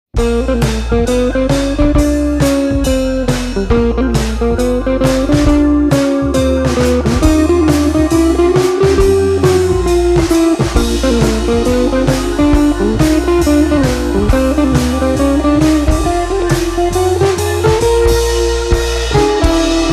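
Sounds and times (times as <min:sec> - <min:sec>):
bluesy guitar tune with bass and drums: 0:00.1 - 0:19.9.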